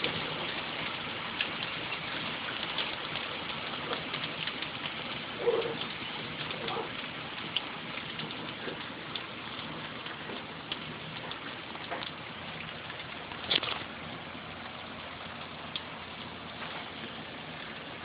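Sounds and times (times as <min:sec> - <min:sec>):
hailstones striking: 0:00.0 - 0:18.0
hailstorm hiss: 0:00.0 - 0:18.0.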